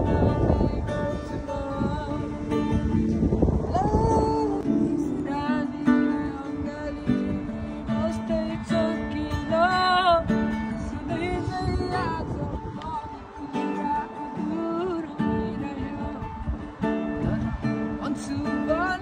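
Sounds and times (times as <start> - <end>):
acoustic guitar strummed: 0.0 - 19.0
person singing: 0.0 - 19.0.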